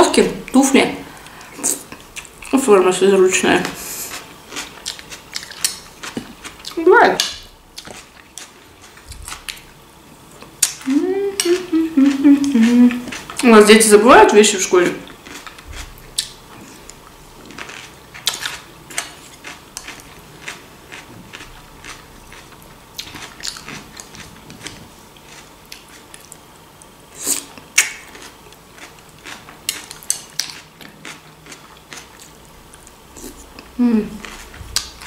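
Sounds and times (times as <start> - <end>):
chewing and crunching vegetables: 3.6 - 13.6, 14.9 - 35.0.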